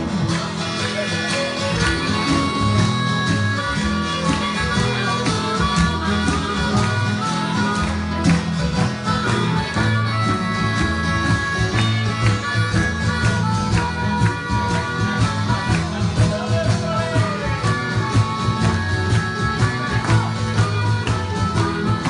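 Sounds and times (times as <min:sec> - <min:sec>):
rock band playing instrumental: 0:00.0 - 0:22.0.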